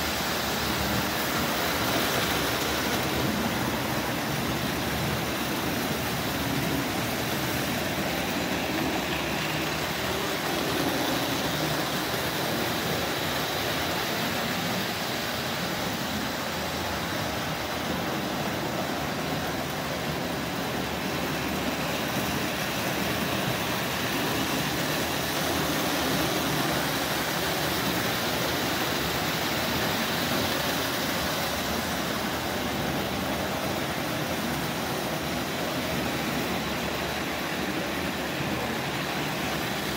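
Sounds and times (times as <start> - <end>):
toy train running on metal track: 0.0 - 39.9.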